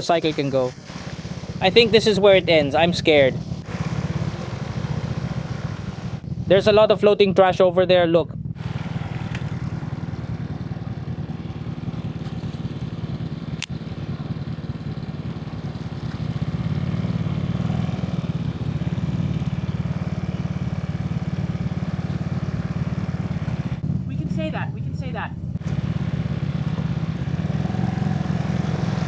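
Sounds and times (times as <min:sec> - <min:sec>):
small motorcycle engine running: 0:00.0 - 0:29.0.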